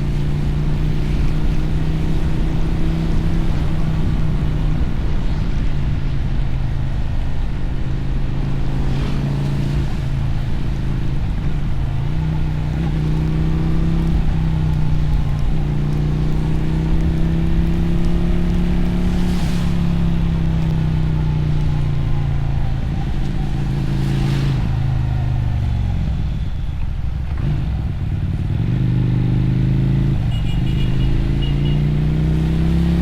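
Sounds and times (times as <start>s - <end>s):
motorcycle engine and exhaust: 0.0s - 33.0s.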